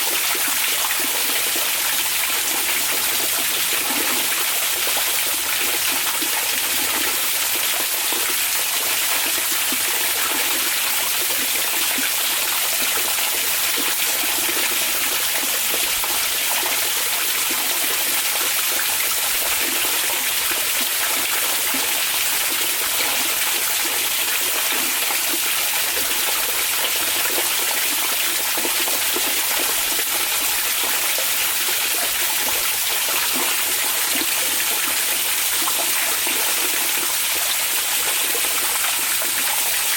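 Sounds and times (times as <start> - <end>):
water pouring into a bath: 0.0 - 39.9.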